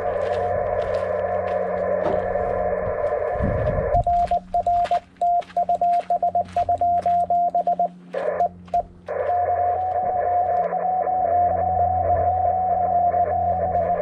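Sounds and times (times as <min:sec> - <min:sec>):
morse code tone: 0:00.0 - 0:14.0
stations calling over radio: 0:00.0 - 0:14.0
steady radio tone: 0:00.0 - 0:14.0.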